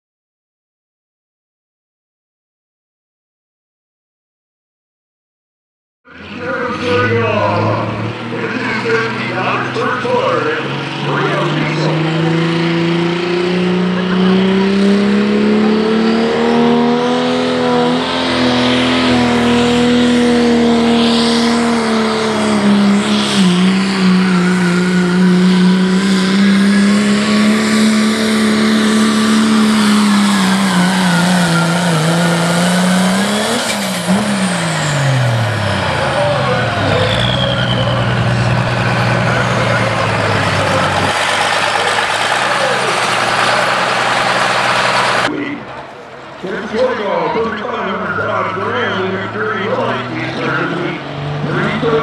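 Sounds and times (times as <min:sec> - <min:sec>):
diesel engine at full throttle: 0:06.1 - 0:52.0.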